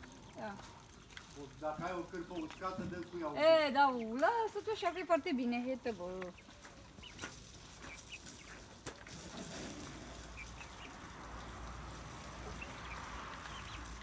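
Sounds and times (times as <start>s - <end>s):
chicks peeping: 0.1s - 14.0s.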